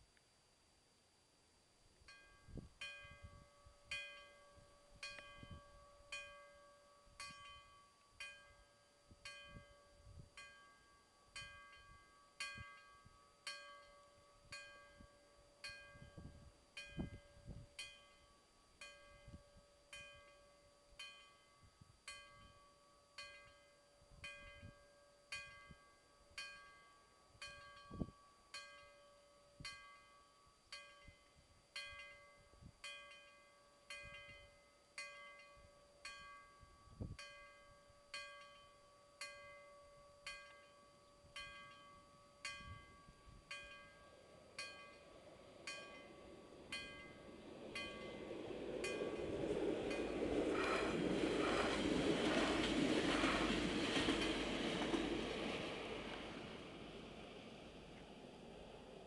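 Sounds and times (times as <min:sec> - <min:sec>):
faint steady tone: 0:00.0 - 0:54.3
level crossing warning bell: 0:02.1 - 0:56.6.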